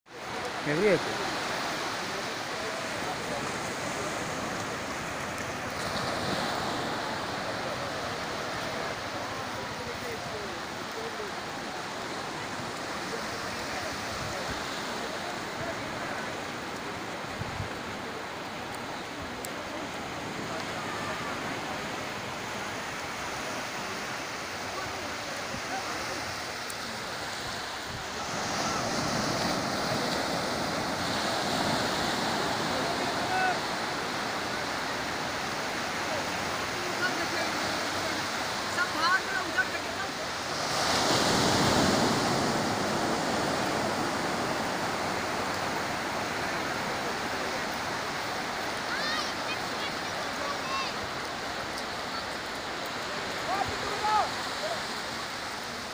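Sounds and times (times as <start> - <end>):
surf washing onto beach: 0.1 - 55.9.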